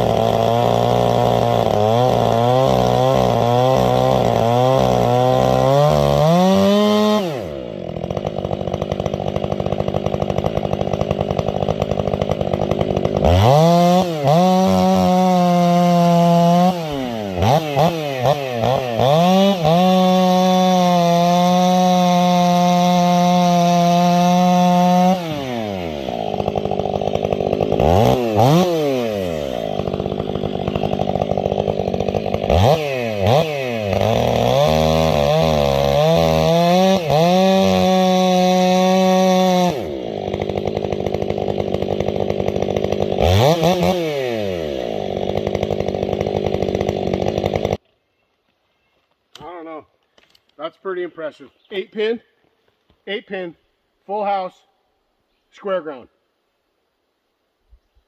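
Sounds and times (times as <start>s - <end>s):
chainsaw revving: 0.0s - 47.8s.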